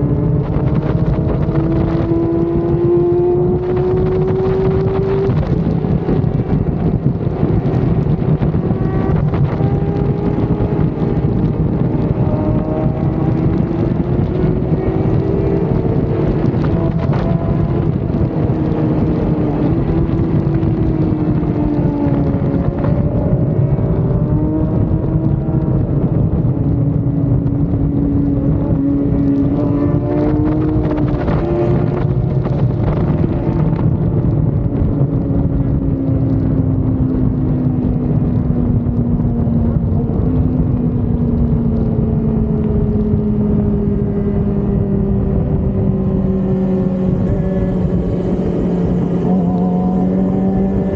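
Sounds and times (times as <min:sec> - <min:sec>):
motorcycle engine running: 0:00.0 - 0:50.9
wind noise on microphone: 0:00.0 - 0:50.9.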